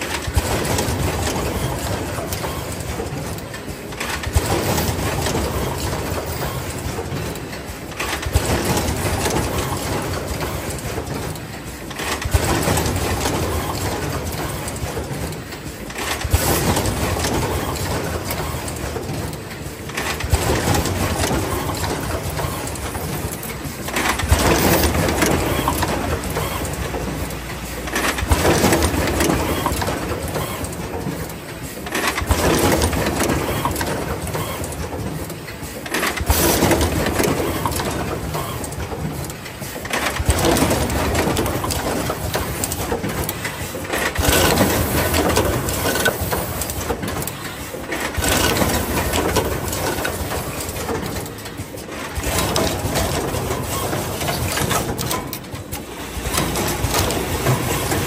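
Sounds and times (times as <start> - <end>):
crimping machine running: 0.0 - 58.0.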